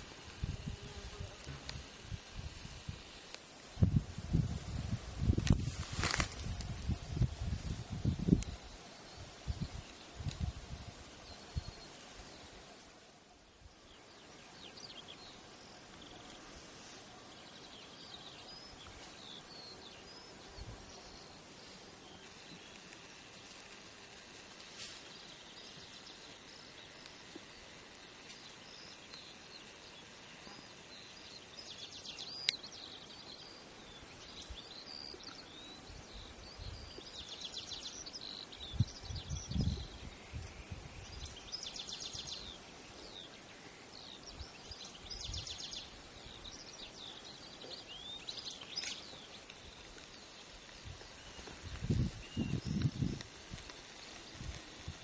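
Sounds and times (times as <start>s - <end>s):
faint outdoor hiss: 0.0s - 55.0s
songbirds chirping and trilling: 0.0s - 55.0s.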